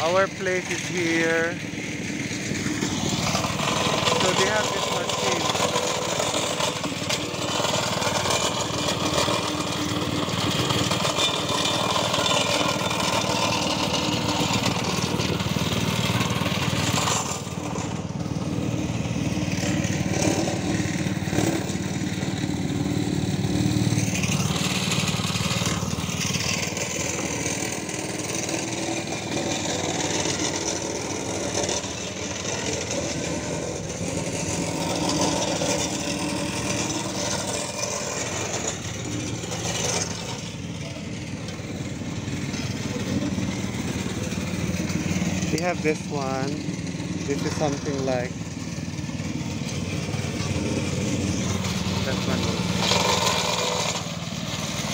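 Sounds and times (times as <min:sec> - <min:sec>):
plate compactor engine running: 0:00.0 - 0:54.9.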